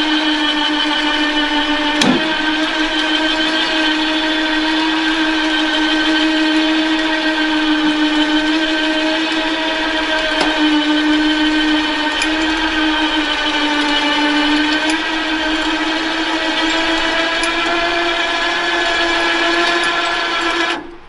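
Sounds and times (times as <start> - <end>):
electric winch motor whining: 0.0 - 21.0.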